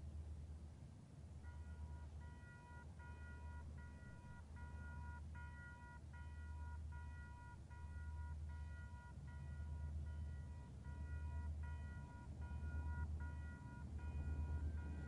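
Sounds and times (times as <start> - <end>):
distant locomotive rumble: 0.0 - 15.0.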